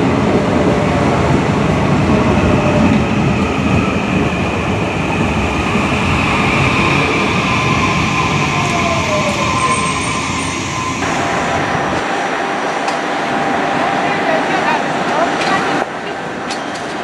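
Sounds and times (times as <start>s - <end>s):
train rumbling by: 0.0s - 17.0s.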